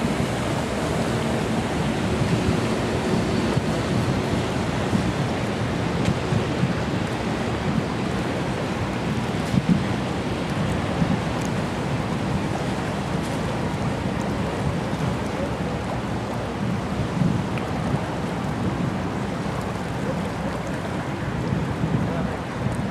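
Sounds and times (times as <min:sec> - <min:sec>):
rushing water: 0:00.0 - 0:22.9
wind buffeting microphone: 0:00.0 - 0:22.9.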